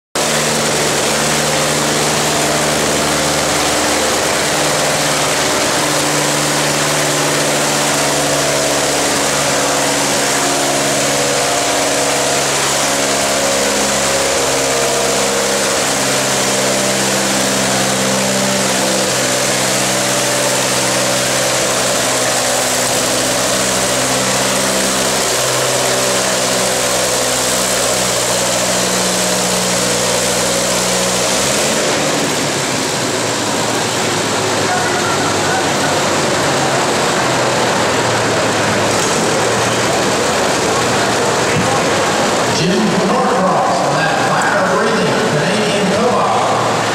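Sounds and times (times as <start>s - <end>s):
tractor engine running: 0.1s - 46.9s.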